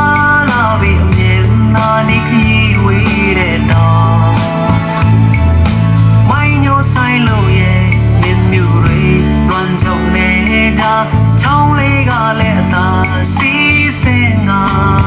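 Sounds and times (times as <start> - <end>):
song with singing and guitar: 0.0 - 15.0.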